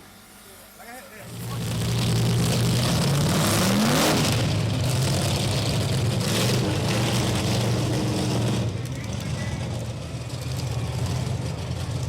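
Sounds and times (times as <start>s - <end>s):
monster truck engine revving: 1.2s - 12.0s.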